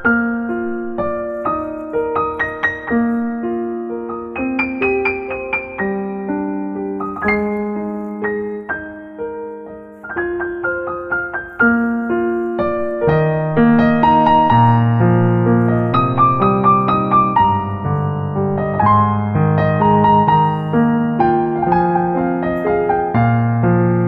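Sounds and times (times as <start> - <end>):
soft piano music: 0.0 - 24.0.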